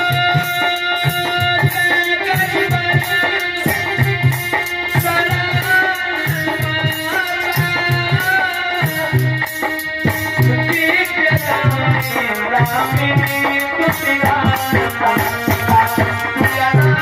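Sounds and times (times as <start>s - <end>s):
hand drum rhythm: 0.0s - 17.0s
man singing: 0.0s - 17.0s.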